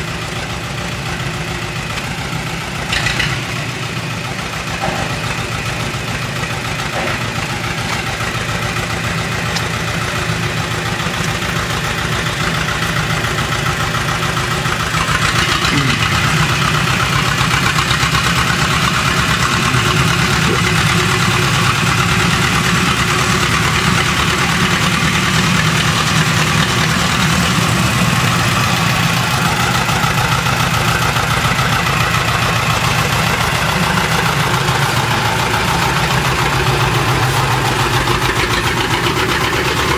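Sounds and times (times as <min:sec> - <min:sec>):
diesel excavator engine running: 0:00.0 - 0:39.9.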